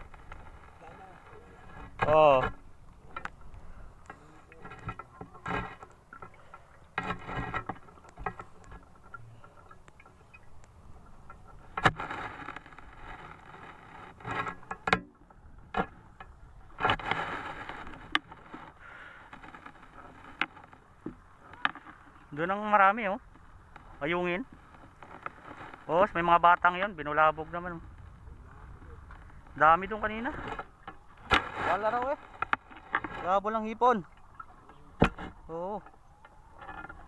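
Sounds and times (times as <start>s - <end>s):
water sloshing and splashing: 0.0s - 37.0s.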